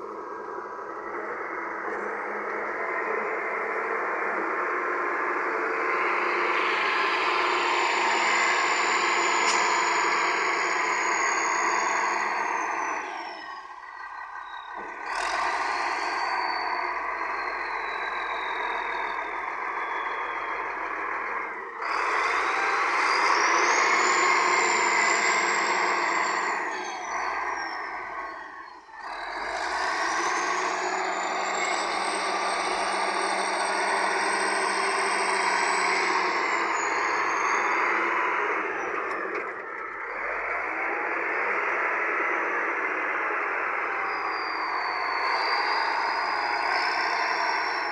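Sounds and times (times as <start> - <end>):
diesel engine under load: 0.0 - 47.9.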